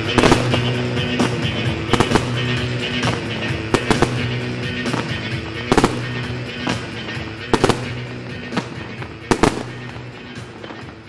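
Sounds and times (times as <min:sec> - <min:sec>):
fireworks bursting bangs: 0:00.0 - 0:11.0
fireworks pops: 0:00.0 - 0:11.0
music with long held notes: 0:00.0 - 0:11.0.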